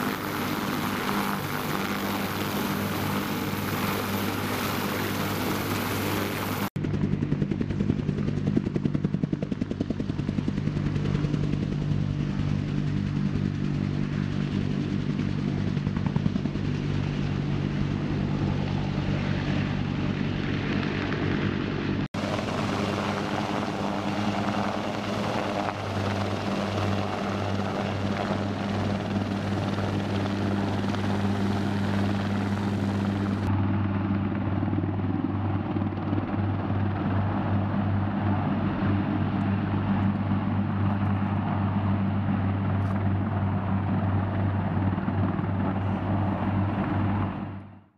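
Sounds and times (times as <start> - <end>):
helicopter rotor and engines: 0.0 - 47.9.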